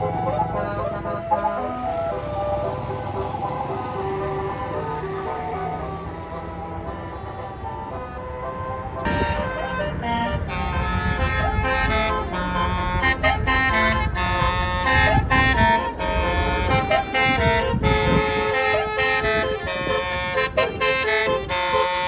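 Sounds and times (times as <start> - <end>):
bus engine rumble: 0.0 - 22.0
multi-note bus horn tune: 0.0 - 22.0.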